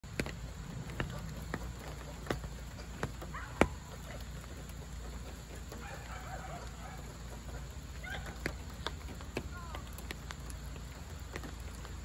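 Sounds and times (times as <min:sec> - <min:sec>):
faint distant calls: 0:00.0 - 0:12.0
raindrops ticking on a car body: 0:00.0 - 0:12.0
steady hiss of rain: 0:00.0 - 0:12.0.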